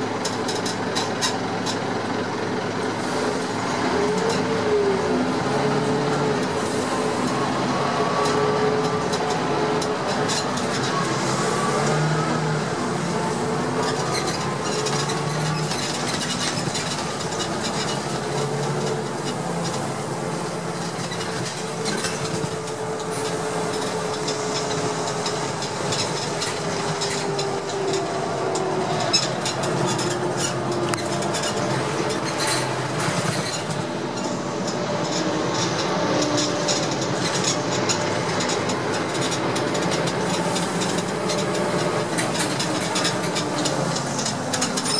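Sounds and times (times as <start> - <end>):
bus engine drone: 0.0 - 44.9.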